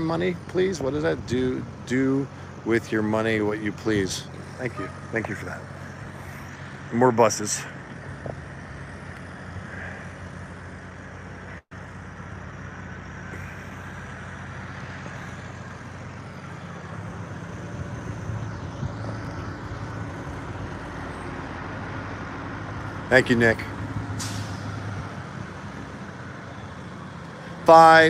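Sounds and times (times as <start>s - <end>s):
bus driving past: 0.0s - 28.0s
street traffic road noise: 0.0s - 28.0s.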